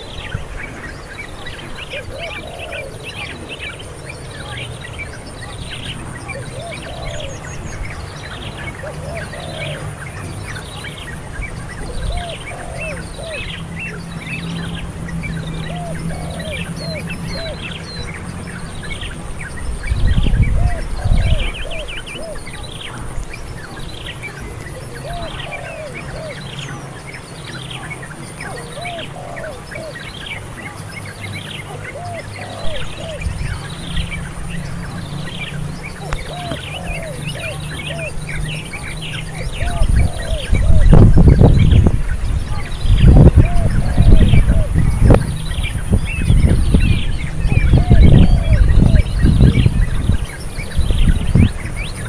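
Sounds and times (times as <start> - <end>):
low looping bird call: 0.0 - 52.0
wind rumble on microphone: 0.0 - 52.0.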